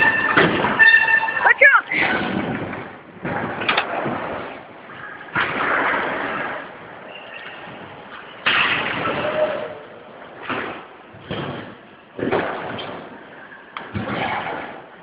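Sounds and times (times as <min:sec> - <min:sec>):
skateboards slapping on ramps: 0:00.0 - 0:01.1, 0:01.9 - 0:15.0
skateboard wheels rolling rumble: 0:00.0 - 0:15.0.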